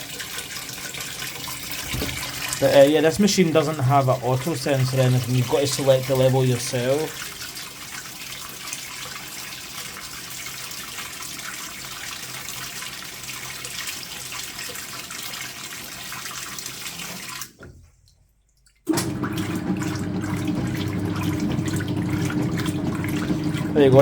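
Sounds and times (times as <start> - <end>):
water hissing into washer tub: 0.0 - 18.1, 18.9 - 24.0
washing machine agitating: 0.0 - 24.0.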